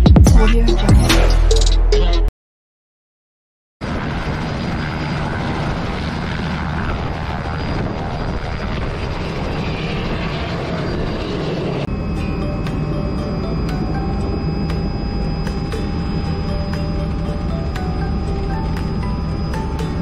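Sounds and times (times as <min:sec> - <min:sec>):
helicopter rotor and engine: 0:03.8 - 0:20.0.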